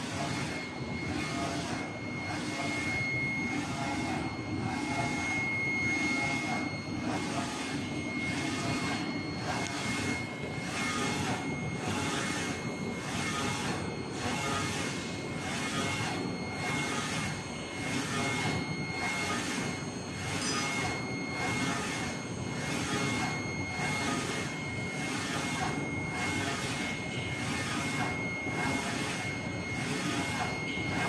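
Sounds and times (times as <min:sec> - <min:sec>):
printer running hum: 0:00.0 - 0:31.0
thin high whine: 0:00.0 - 0:31.0.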